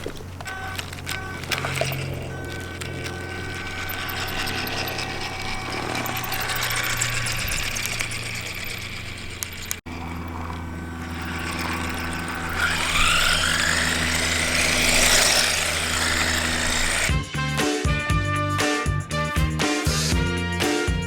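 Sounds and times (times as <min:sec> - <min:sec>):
motor whine rising and falling: 0:00.0 - 0:17.1
electric motor and gears humming: 0:00.0 - 0:17.2.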